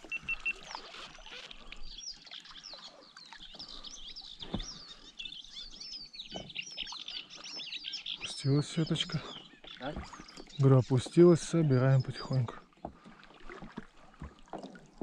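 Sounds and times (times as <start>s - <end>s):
small birds twittering: 0.0s - 13.1s.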